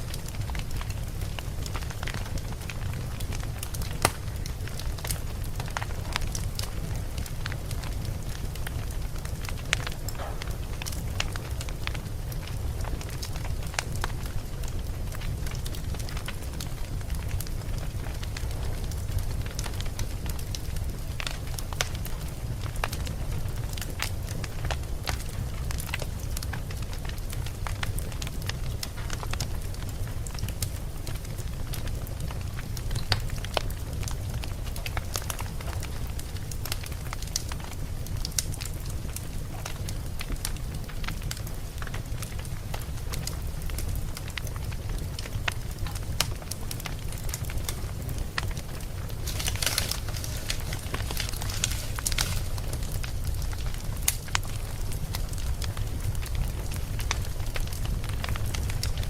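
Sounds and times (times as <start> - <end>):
campfire crackling: 0.0 - 59.0
low fire rumble: 0.0 - 59.0.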